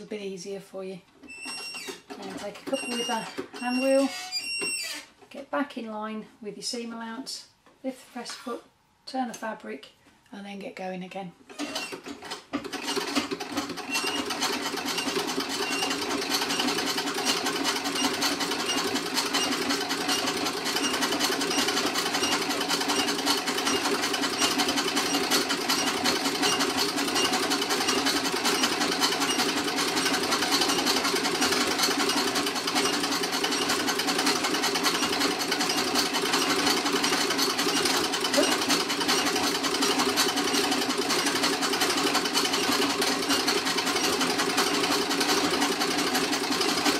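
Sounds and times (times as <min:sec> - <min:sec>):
sewing machine clatter: 0:01.4 - 0:04.4, 0:11.5 - 0:46.9.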